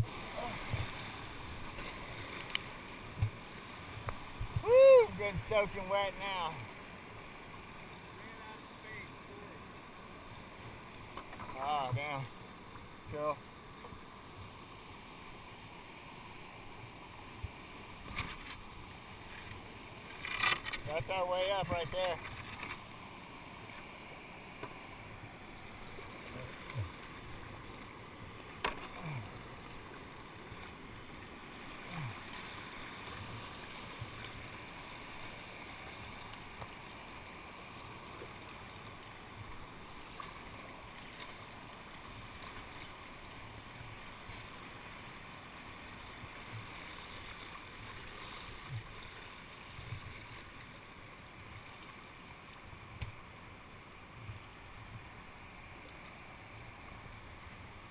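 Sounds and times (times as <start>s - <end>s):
creek water rushing: 0.0s - 57.9s.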